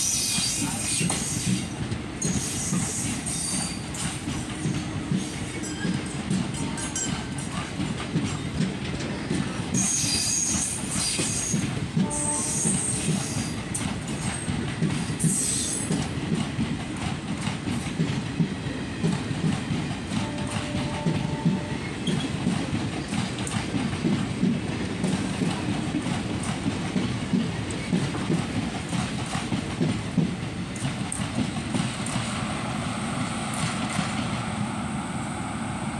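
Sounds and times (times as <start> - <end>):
train wheels rumbling and clattering: 0.0 - 35.9.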